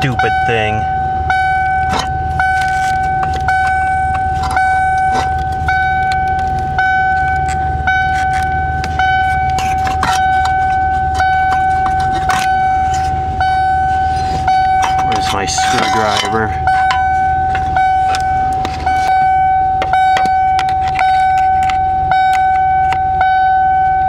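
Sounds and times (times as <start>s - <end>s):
car warning chime dinging: 0.0s - 24.0s.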